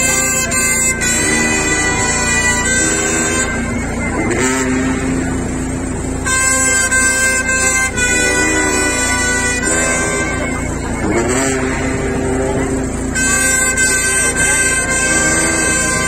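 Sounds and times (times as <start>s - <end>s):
brass band playing funeral march: 0.0s - 16.0s.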